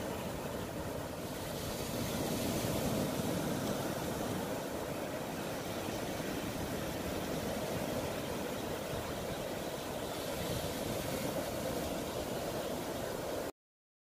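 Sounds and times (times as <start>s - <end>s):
surf washing over sand and pebbles: 0.0s - 13.5s.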